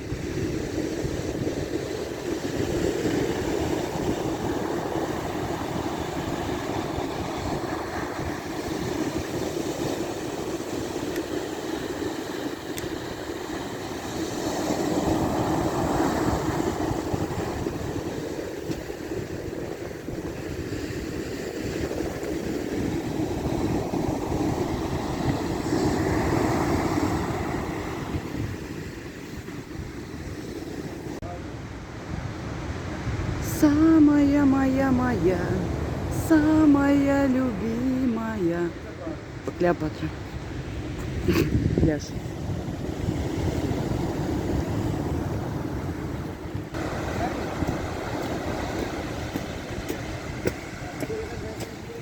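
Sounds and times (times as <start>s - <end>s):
wind buffeting microphone: 0.0s - 34.0s, 40.2s - 52.0s.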